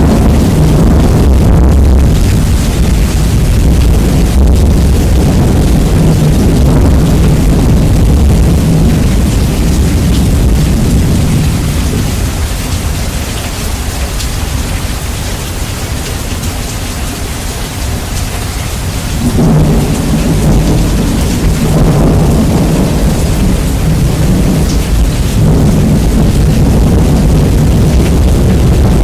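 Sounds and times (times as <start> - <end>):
heavy rain: 0.0 - 29.0
thunder rumbling: 0.0 - 29.0.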